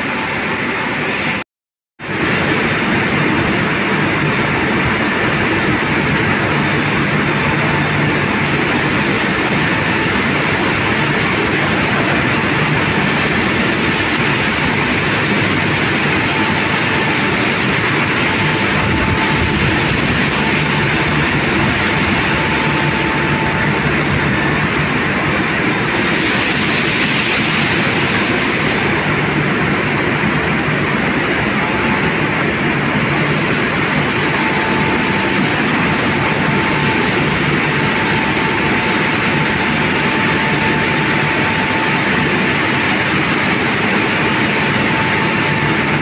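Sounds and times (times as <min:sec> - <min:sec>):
steel mill machinery roar: 0:00.0 - 0:01.4, 0:02.0 - 0:46.0
faint machine whine: 0:02.1 - 0:46.0.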